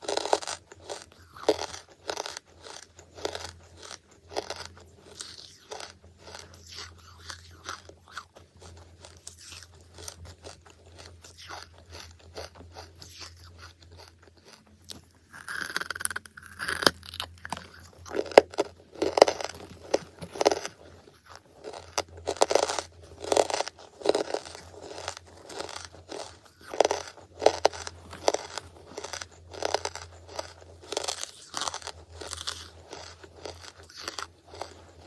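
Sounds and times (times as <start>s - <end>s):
chewing and crunching charcoal: 0.0s - 35.0s.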